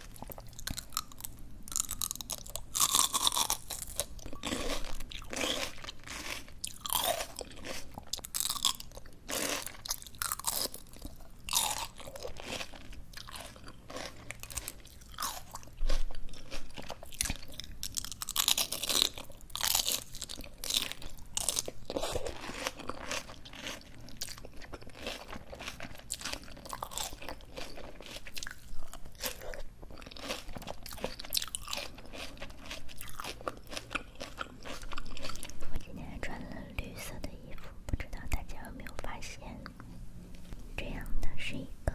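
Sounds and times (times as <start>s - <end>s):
chewing crisp raw greens: 0.0s - 35.9s.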